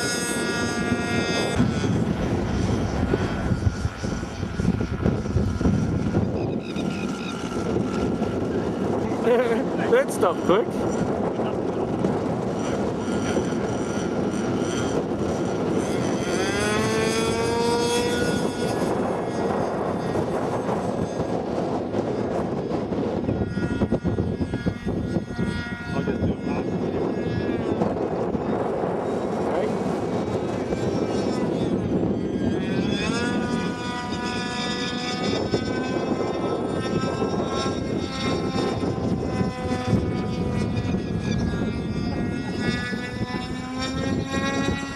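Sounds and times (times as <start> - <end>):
model plane engine buzzing: 0.0 - 44.9
wind buffeting microphone: 0.0 - 44.9.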